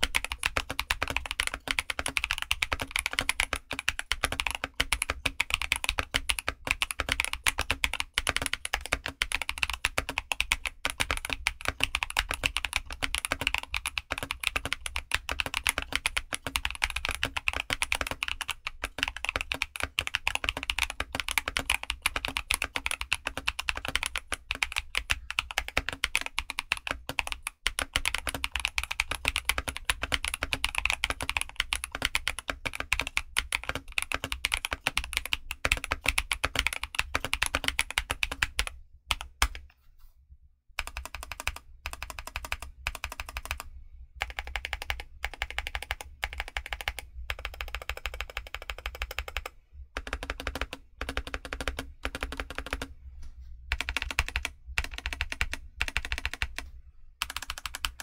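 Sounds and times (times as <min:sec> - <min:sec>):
fast mechanical keyboard typing: 0:00.0 - 0:39.6, 0:40.8 - 0:52.9, 0:53.7 - 0:58.0.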